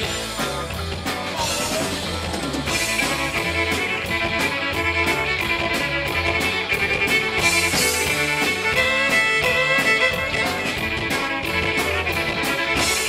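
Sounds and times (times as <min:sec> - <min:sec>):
country band playing: 0:00.0 - 0:13.0
sliding guitar lead line: 0:00.0 - 0:13.0.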